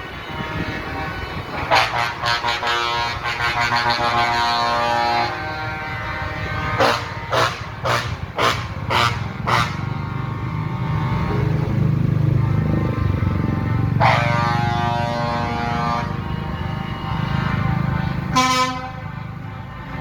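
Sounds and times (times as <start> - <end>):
heavy engines running: 0.0 - 20.0
truck horn blasts: 0.0 - 20.0.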